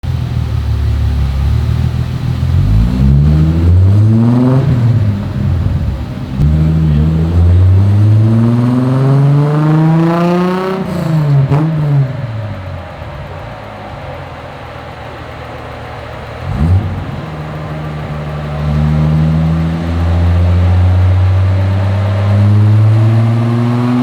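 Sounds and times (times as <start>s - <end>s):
engine revving on a dyno: 1.3s - 24.0s.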